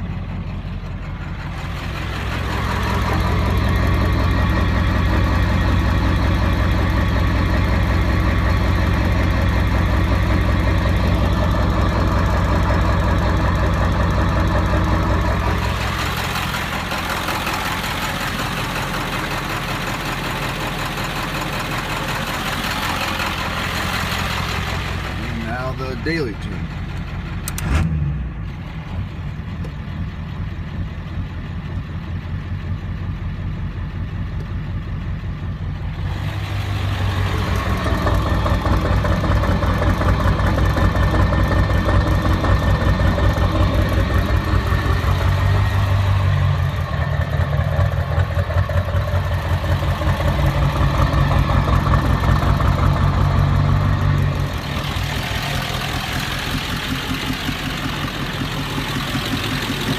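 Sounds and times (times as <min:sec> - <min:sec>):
diesel engine idling roughly: 0:00.0 - 0:59.9.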